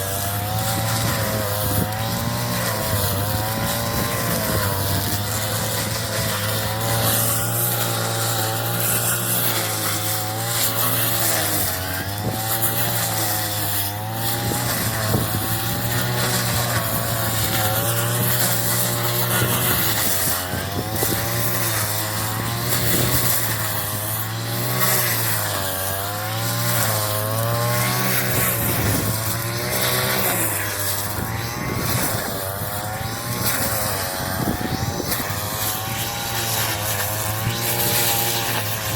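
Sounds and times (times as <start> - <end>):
straw-cutting machine engine running: 0.0 - 38.9.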